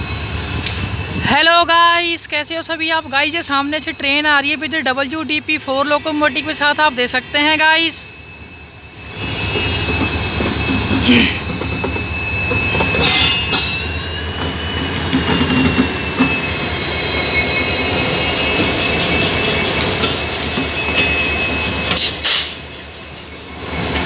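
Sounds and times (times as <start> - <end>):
diesel locomotive engine rumbling: 0.0 - 24.0
high wheel squeal: 0.0 - 24.0.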